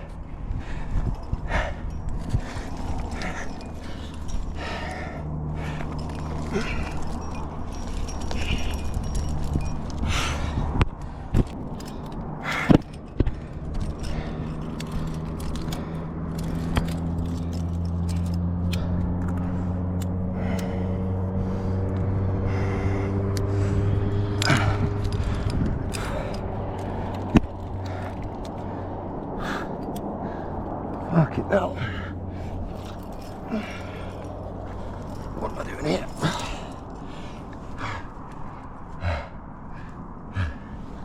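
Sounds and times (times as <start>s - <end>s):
climbing gear clinking: 0.0s - 41.0s
heavy breathing: 0.0s - 41.0s
vehicle engine drone: 0.0s - 41.0s.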